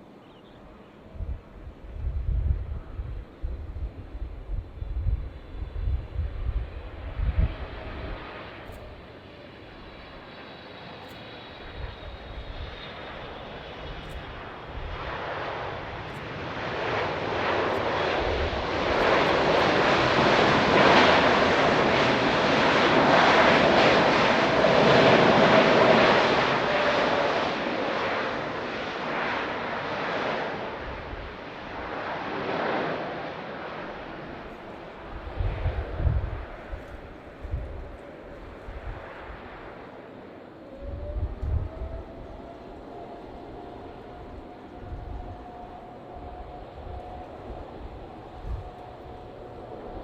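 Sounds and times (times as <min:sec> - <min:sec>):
jet airliner passing by: 0:00.0 - 0:50.0.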